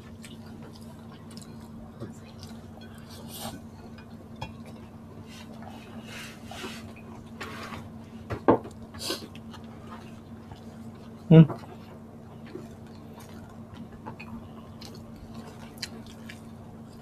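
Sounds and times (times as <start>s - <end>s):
chewing: 0.0s - 7.0s, 8.7s - 17.0s
faint low hum: 0.0s - 17.0s.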